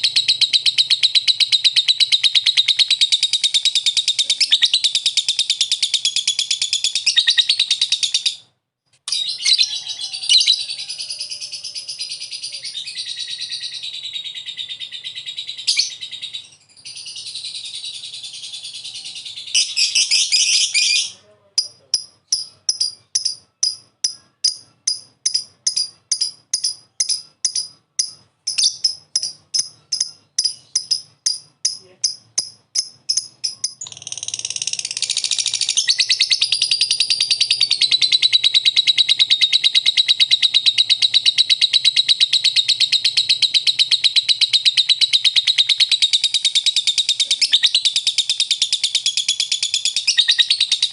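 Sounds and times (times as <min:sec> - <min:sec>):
bird trilling chatter: 0:00.0 - 0:08.4, 0:09.1 - 0:50.9
bird chirps: 0:00.0 - 0:50.9.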